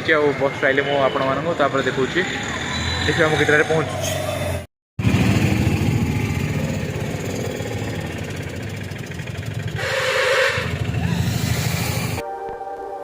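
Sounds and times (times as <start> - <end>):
bus engine rumbling: 0.0 - 12.4.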